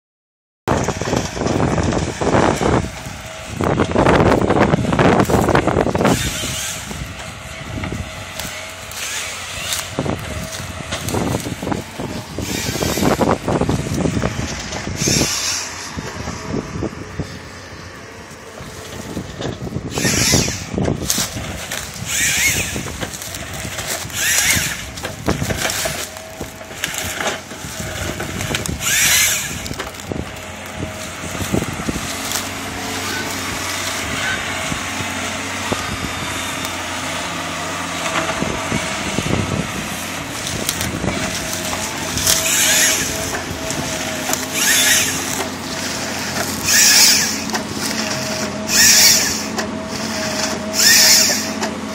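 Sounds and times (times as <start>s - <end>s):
cutting machine hum: 0.7s - 51.9s
machine cutting wood: 0.7s - 51.9s.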